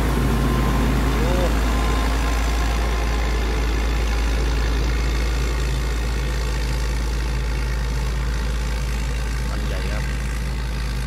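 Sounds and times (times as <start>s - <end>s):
diesel engine rumble: 0.0s - 11.0s.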